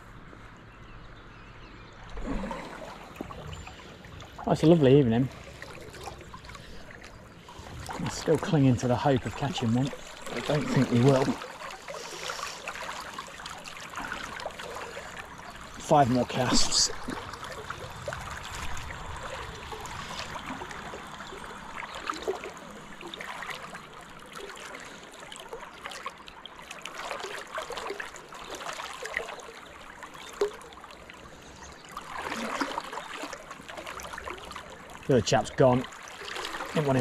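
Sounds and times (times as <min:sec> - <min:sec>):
river flowing and gurgling: 0:00.0 - 0:37.0.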